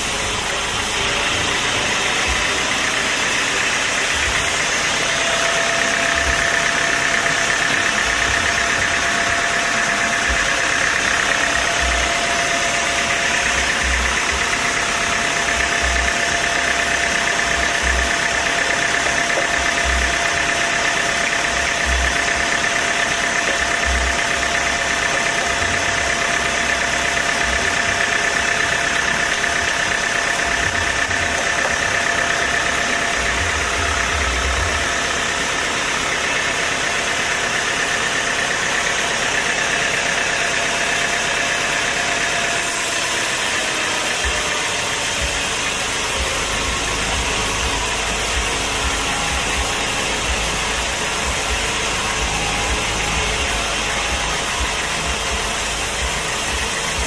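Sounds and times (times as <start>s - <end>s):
machine motor whining: 0.0s - 57.0s.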